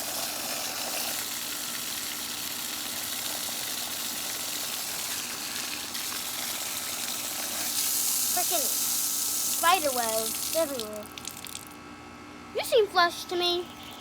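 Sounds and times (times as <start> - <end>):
running water: 0.0 - 11.8.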